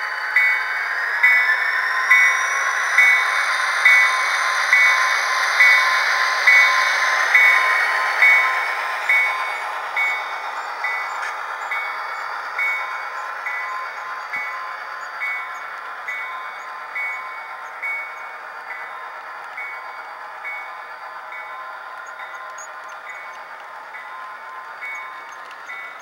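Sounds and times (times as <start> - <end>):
engine and wheels hiss: 0.0 - 26.0
locomotive bell ringing: 0.2 - 26.0.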